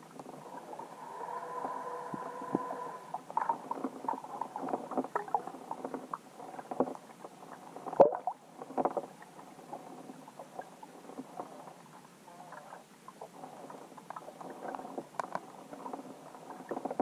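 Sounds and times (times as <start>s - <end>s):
underwater clicks and crackles: 0.0s - 17.0s.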